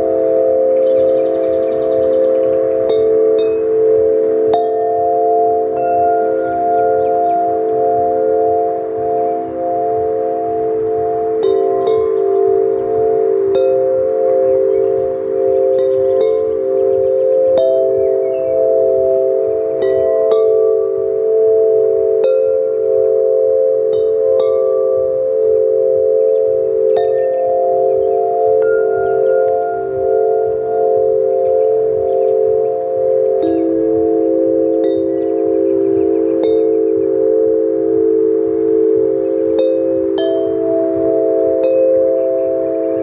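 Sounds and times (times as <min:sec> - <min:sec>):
tubular bells ringing: 0:00.0 - 0:43.0.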